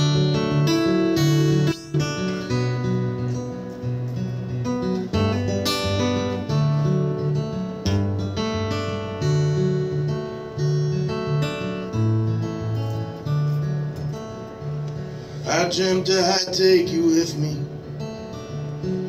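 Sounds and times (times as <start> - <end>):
acoustic guitar playing: 0.0 - 19.0.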